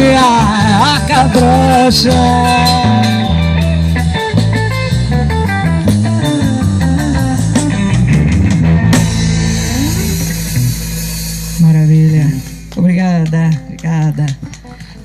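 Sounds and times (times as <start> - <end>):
drums: 0.0 - 15.0
plucked guitar: 0.0 - 15.0.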